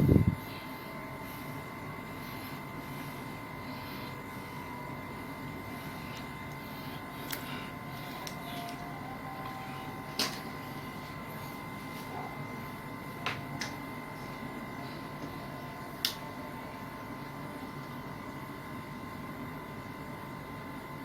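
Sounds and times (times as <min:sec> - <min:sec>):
electrical hum with whine: 0:00.0 - 0:21.0.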